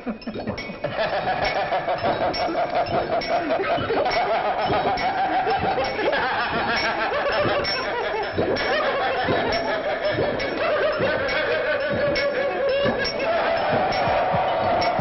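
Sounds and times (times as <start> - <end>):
people laughing and sniggering: 0.0 - 15.0.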